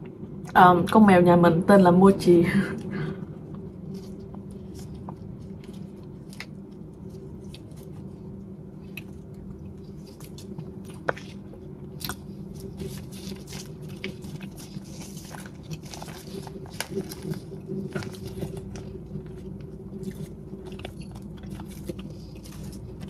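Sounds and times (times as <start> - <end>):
low hum: 0.0 - 23.0
chewing with mouth clicks: 3.2 - 23.0
leaf wrapper crinkling: 3.8 - 23.0.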